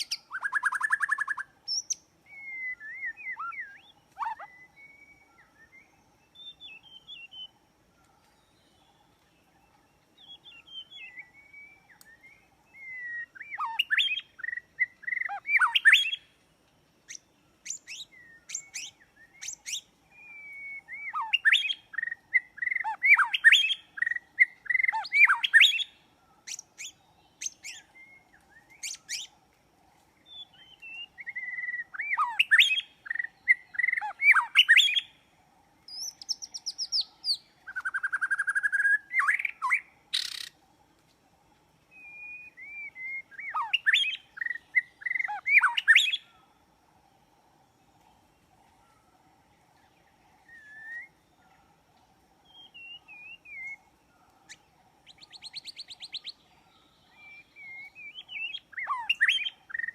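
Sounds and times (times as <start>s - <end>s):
bird whistled song: 0.0s - 16.3s, 17.1s - 29.4s, 30.2s - 40.6s, 41.9s - 46.4s, 49.8s - 51.6s, 52.4s - 59.9s.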